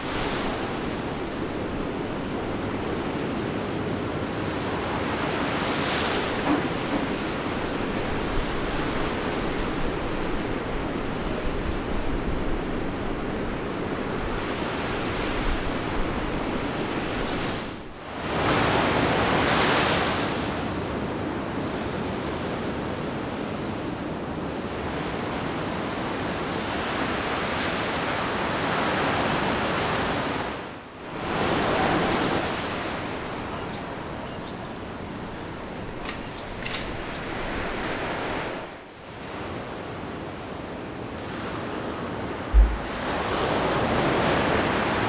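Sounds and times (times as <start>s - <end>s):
ocean surf breaking: 0.0s - 20.7s, 28.0s - 40.0s, 41.2s - 45.0s.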